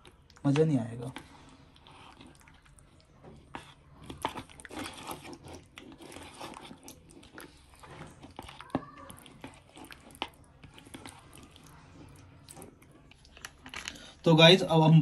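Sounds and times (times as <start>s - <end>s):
wet squelches of mixing: 0.0s - 15.0s.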